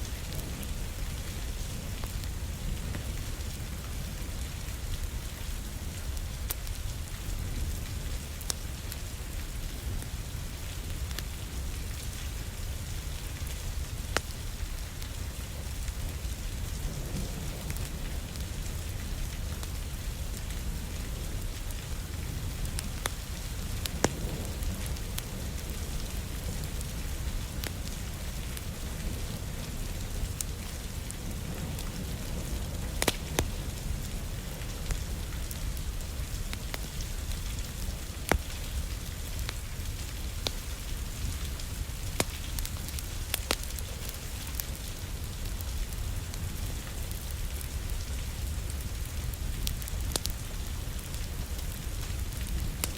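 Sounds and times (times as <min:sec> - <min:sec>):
steady rain: 0:00.0 - 0:52.9
wood fire crackling and popping: 0:00.1 - 0:52.9.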